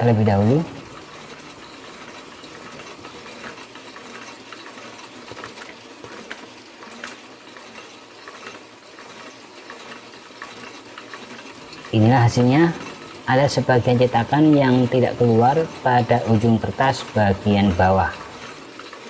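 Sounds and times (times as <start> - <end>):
printing press mechanical hiss: 0.0 - 19.0.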